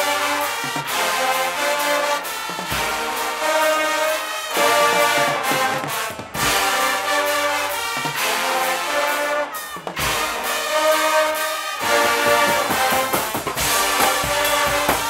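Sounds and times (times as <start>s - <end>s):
brass and drum band playing: 0.0s - 15.0s.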